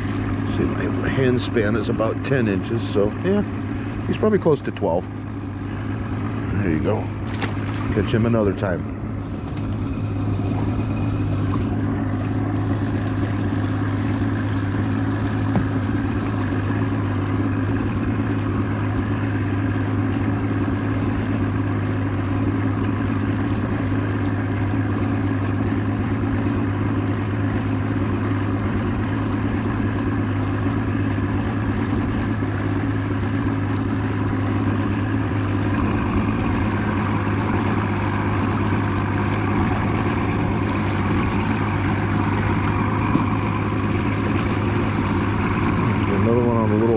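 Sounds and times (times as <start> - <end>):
outboard motor droning: 0.0 - 46.9.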